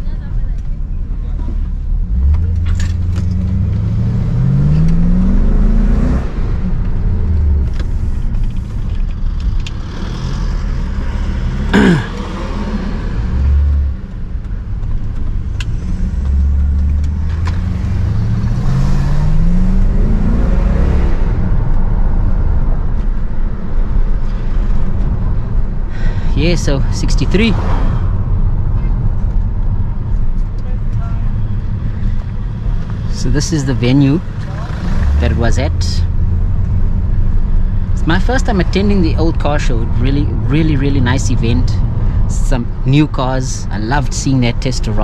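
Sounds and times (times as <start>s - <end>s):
car engine accelerating: 0.0s - 45.0s
road noise: 0.0s - 45.0s.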